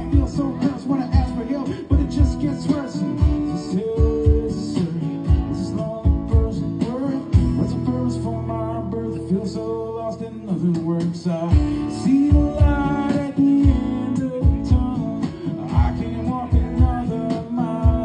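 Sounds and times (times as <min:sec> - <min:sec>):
steady drum beat: 0:00.0 - 0:07.8, 0:10.7 - 0:18.0
acoustic guitar: 0:00.0 - 0:18.0
live country band: 0:00.0 - 0:18.0.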